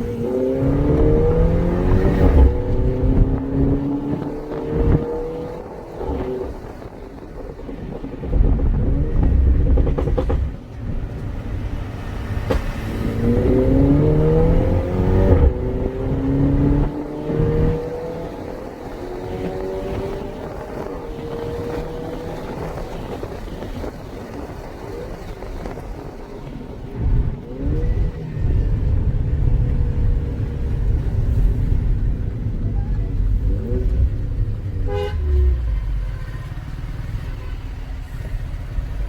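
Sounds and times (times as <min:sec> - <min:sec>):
car engine pulling hard: 0:00.0 - 0:39.0.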